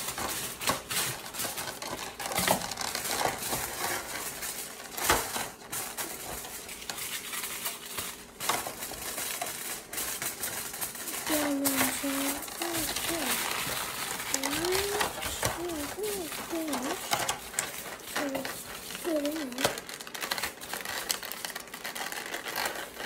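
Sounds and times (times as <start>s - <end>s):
crinkling: 0.0s - 23.0s
small hard objects clicking: 0.0s - 23.0s.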